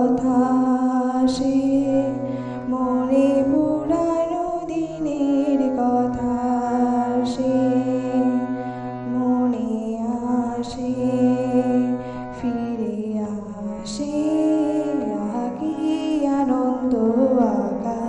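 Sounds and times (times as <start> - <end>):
harmonium melody: 0.0 - 18.0.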